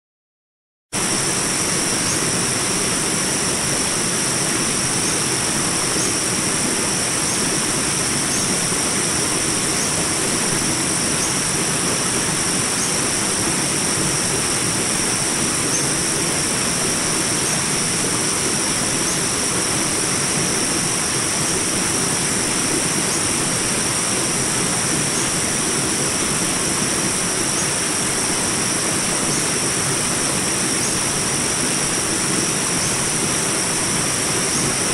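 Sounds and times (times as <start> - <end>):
insects droning: 1.0 - 34.9
water rushing over rocks: 1.0 - 34.9.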